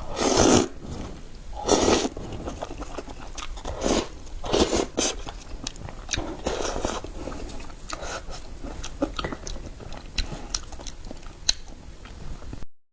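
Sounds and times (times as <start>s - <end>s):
wet chewing: 0.0s - 12.6s.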